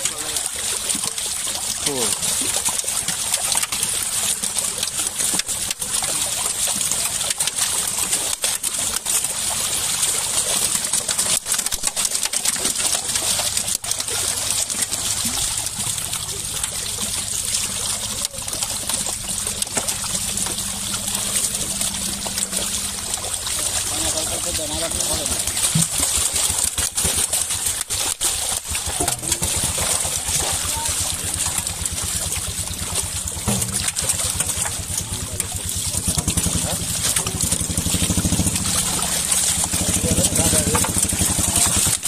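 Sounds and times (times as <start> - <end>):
fish thrashing and splashing: 0.0 - 42.0.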